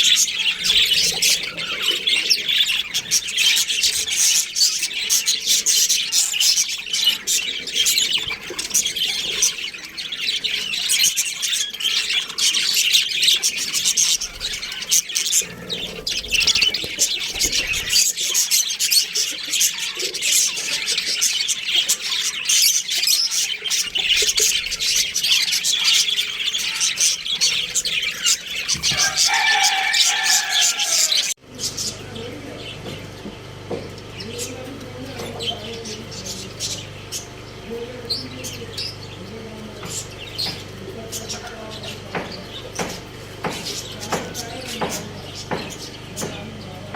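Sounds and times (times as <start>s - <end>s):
flock of small birds chirping: 0.0s - 46.9s.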